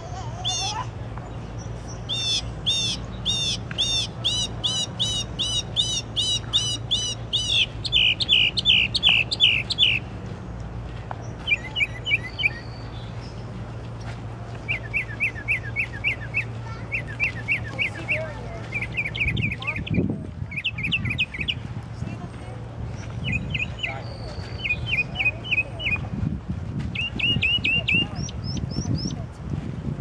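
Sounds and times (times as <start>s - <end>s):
songbird singing: 0.0s - 26.2s, 26.8s - 29.2s.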